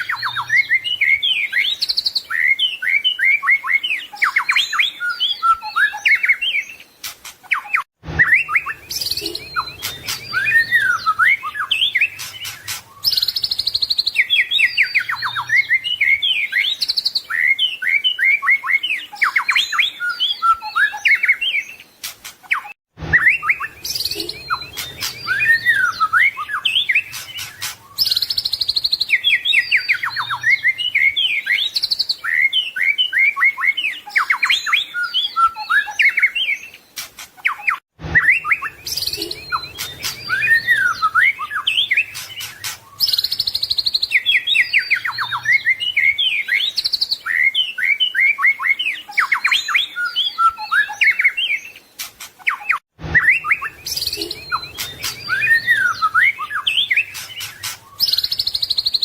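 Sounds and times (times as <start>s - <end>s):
songbird singing varied whistles: 0.0s - 59.0s.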